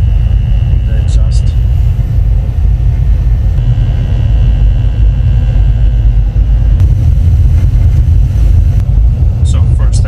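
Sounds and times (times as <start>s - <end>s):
furnace rumbling: 0.0s - 10.0s.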